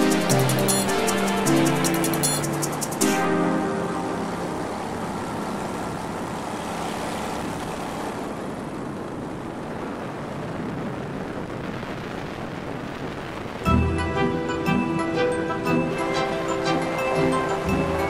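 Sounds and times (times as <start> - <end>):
paramotor engine drone: 0.0 - 10.9, 13.8 - 18.0.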